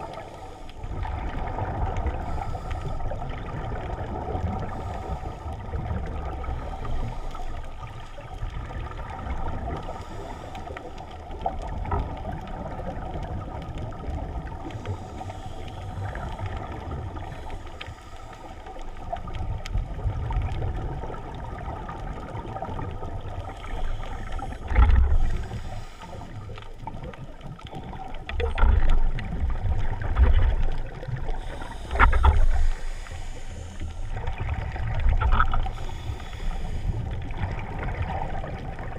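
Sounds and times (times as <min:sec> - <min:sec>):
low water gushes: 0:00.0 - 0:38.9
underwater water rumble: 0:00.0 - 0:38.9.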